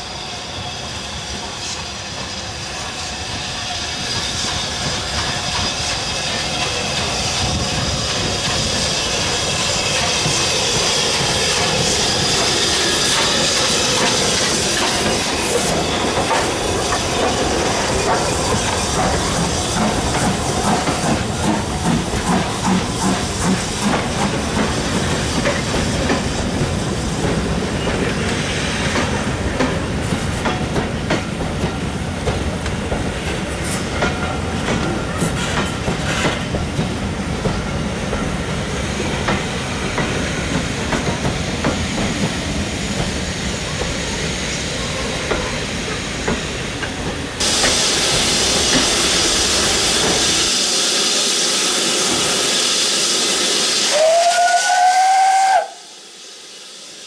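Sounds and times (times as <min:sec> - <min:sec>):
steam locomotive hissing: 0:00.0 - 0:57.0
train wheels rumbling on rail: 0:00.0 - 0:57.0.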